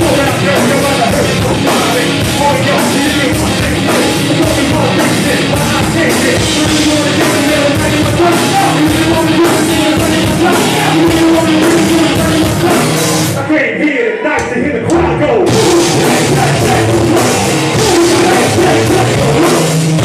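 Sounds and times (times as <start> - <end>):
driving drum beat: 0.0 - 13.4, 14.4 - 20.0
live band playing heavy rock: 0.0 - 13.5, 14.4 - 20.0.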